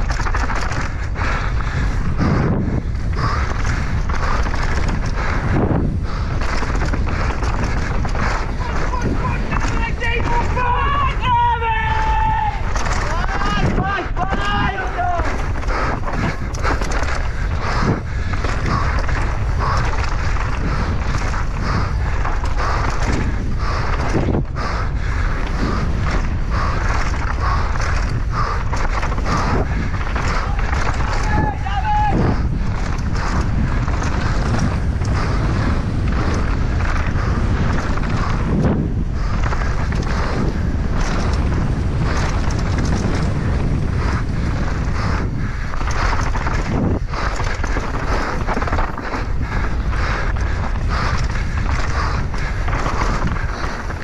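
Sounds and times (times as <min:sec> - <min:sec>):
bike tyre and frame rattle: 0:00.0 - 0:54.0
wind buffeting microphone: 0:00.0 - 0:54.0.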